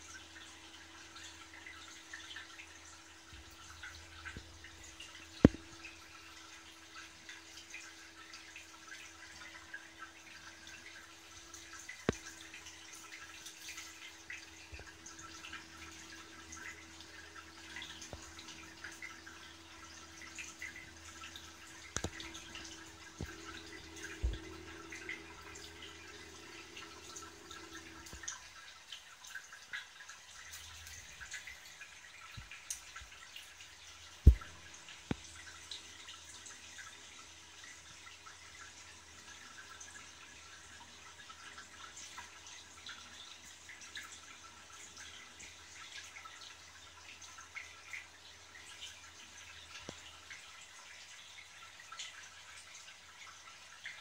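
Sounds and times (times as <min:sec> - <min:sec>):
aquarium water trickling and bubbling: 0:00.0 - 0:54.0
low steady hum: 0:00.0 - 0:54.0.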